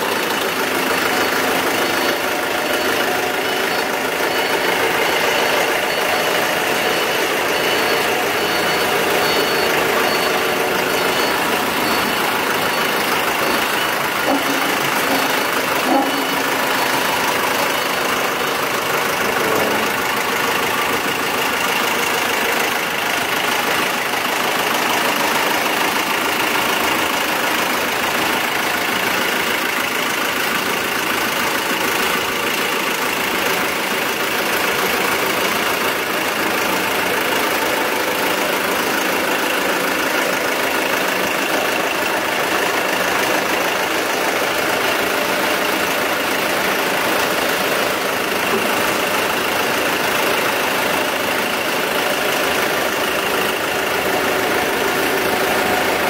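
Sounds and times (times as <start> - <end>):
forklift engine running: 0.0 - 56.0.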